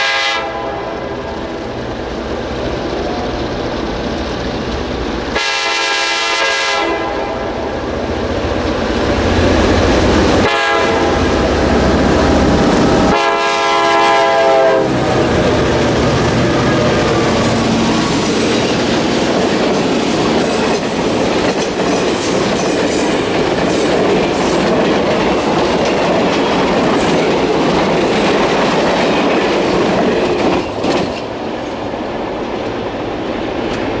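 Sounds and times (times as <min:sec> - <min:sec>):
train wheel noise: 0:00.0 - 0:34.0.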